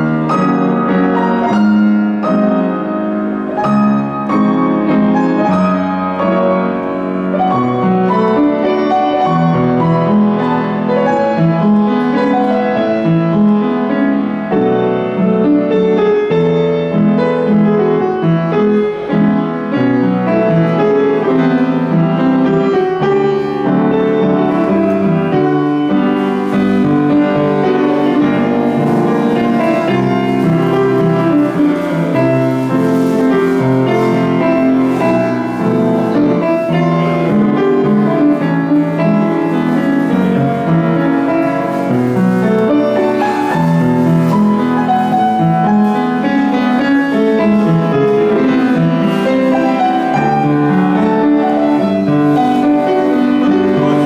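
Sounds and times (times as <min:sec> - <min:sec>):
upright piano playing: 0:00.0 - 0:54.0.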